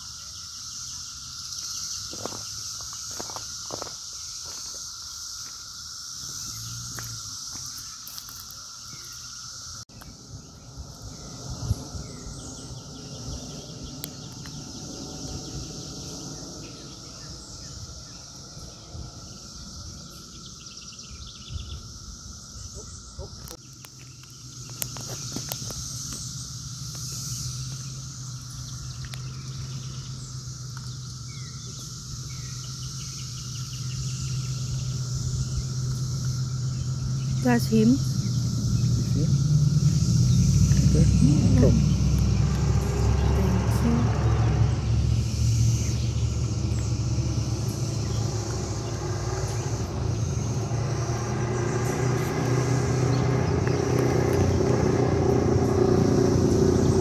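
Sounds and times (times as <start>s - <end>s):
cicada clicks: 0.0s - 57.0s
cicadas droning: 0.0s - 57.0s.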